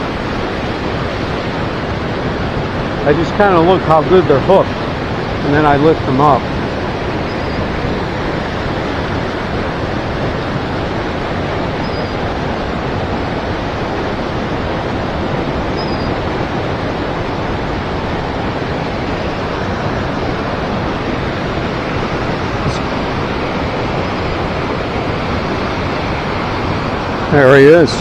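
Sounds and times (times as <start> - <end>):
river water rushing over rapids: 0.0 - 28.0.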